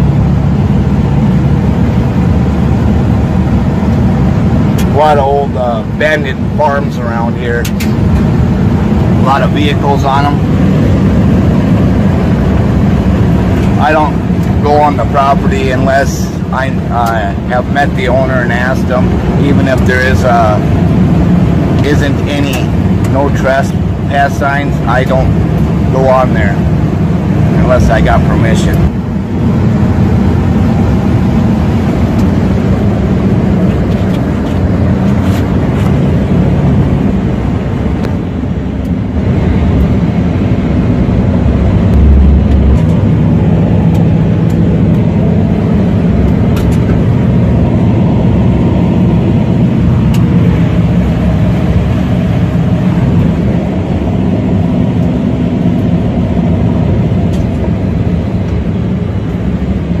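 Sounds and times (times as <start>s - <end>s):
engine drone and road noise: 0.0s - 60.0s.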